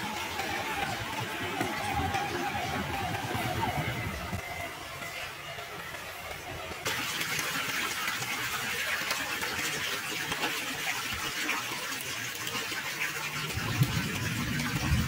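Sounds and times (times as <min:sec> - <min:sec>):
rainwater running over stones: 0:00.0 - 0:04.4, 0:05.0 - 0:15.0.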